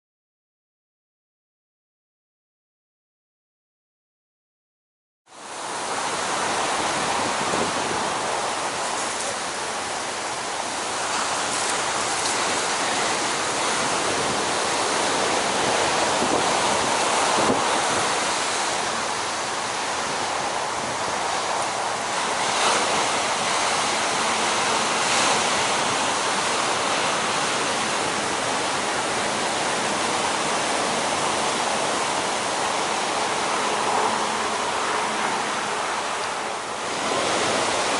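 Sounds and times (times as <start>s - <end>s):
ocean surf breaking: 5.4s - 37.9s.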